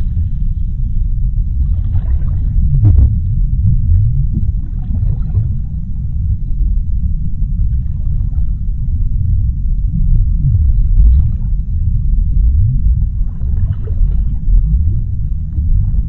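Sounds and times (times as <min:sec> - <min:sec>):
deep underwater rumble: 0:00.0 - 0:16.0
faint low gliding tone: 0:00.0 - 0:16.0.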